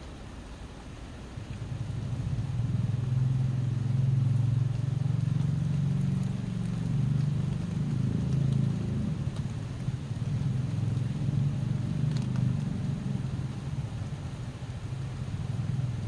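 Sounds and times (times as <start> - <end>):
rain hiss: 0.0 - 16.0
vehicle engine hum: 1.1 - 16.0.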